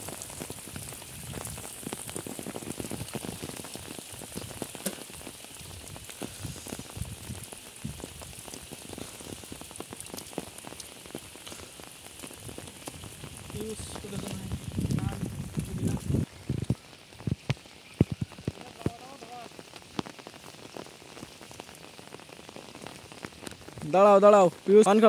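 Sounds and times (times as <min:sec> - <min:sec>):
rain falling on pond: 0:00.0 - 0:25.0.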